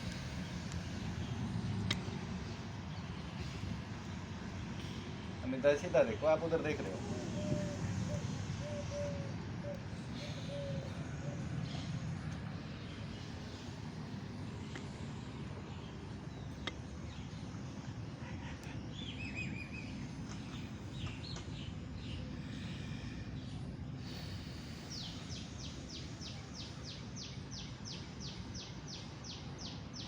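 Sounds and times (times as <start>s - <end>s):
birds chirping: 5.5s - 30.0s.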